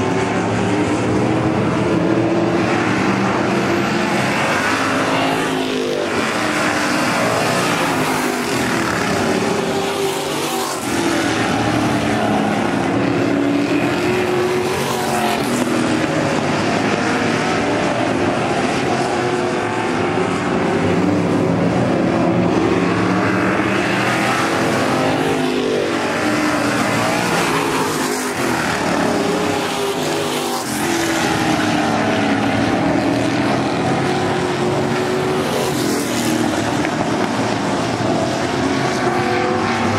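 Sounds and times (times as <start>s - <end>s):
race car engines passing by: 0.0s - 39.9s.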